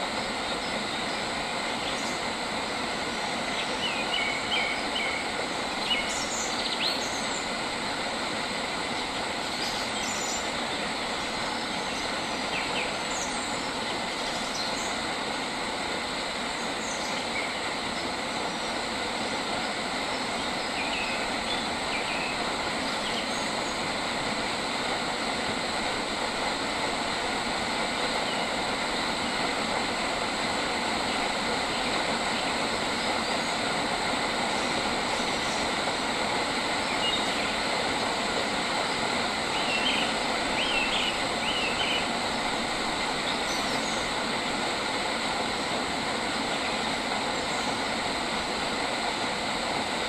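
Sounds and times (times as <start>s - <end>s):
steady rushing hiss: 0.0s - 50.0s.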